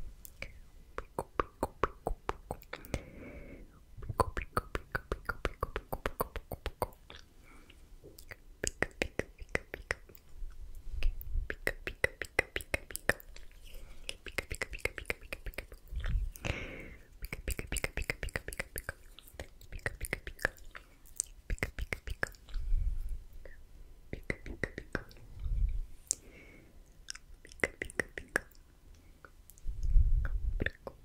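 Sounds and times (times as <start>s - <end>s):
tongue and lip clicks: 0.2s - 3.1s, 4.0s - 22.7s, 23.3s - 26.3s, 26.9s - 31.0s.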